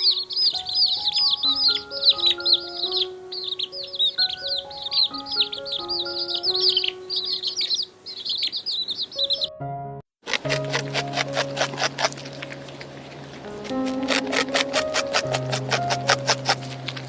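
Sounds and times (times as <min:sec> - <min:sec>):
background music with held notes: 0:00.0 - 0:08.0, 0:09.2 - 0:17.0
small birds chirping: 0:00.0 - 0:09.6, 0:10.2 - 0:17.0.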